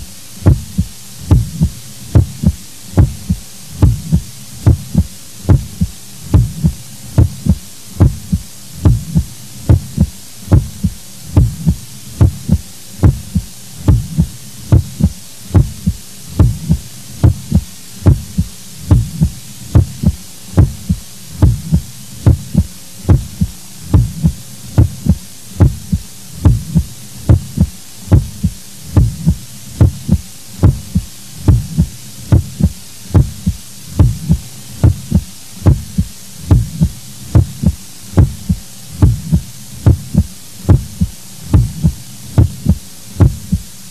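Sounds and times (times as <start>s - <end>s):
heartbeat thumps: 0.0s - 43.7s.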